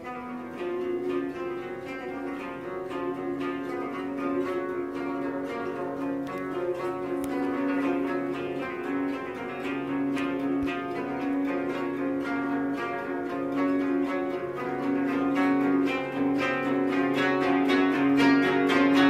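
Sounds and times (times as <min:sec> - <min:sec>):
plucked zither notes: 0:00.0 - 0:19.0.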